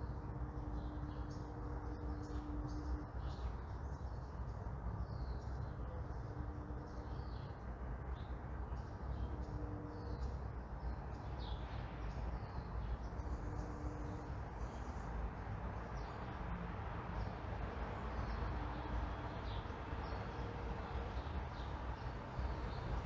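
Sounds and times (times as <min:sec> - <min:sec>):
distant traffic rumble: 0:00.0 - 0:23.0.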